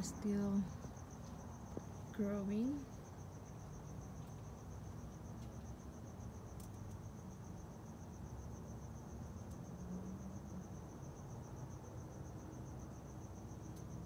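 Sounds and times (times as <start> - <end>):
low background rumble: 0.0 - 13.3
crickets chirping: 0.0 - 14.0.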